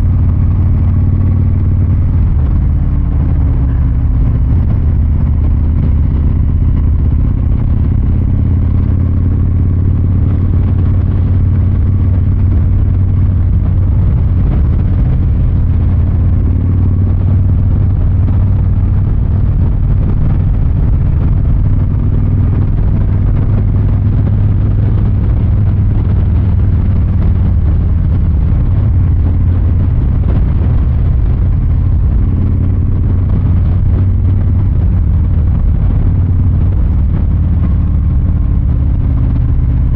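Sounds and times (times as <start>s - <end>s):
motorcycle exhaust running steadily: 0.0s - 39.9s.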